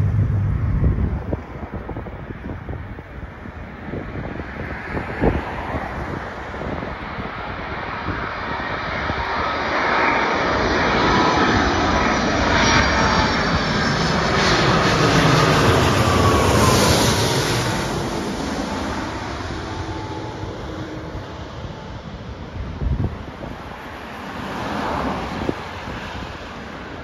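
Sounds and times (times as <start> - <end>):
jet airliner passing overhead: 0.0 - 27.0
wind rumble on microphone: 0.0 - 27.0.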